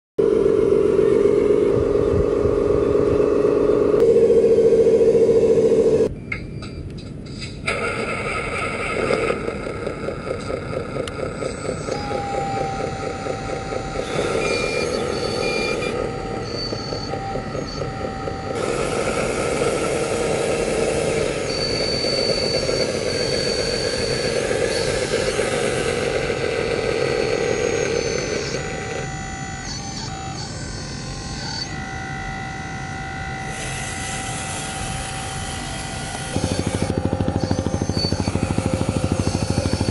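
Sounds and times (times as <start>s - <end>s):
toy loader motors whining: 7.7s - 39.9s.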